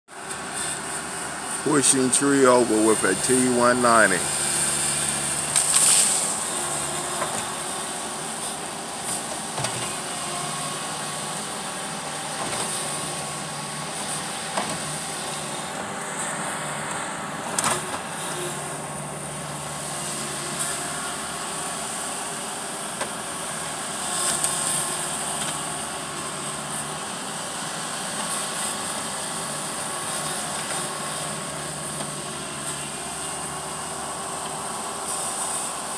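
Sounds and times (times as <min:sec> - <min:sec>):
diesel engine running: 0:00.2 - 0:35.9.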